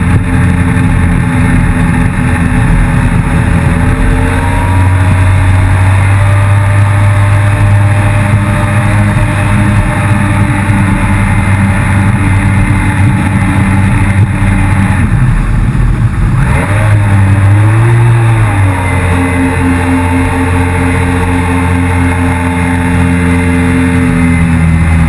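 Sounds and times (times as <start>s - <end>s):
jet ski engine revving: 0.0s - 25.0s.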